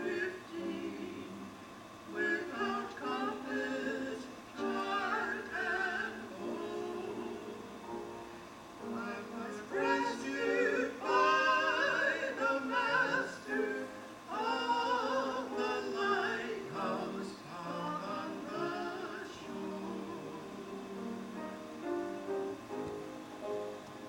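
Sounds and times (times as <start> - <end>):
live gospel music: 0.0 - 24.0.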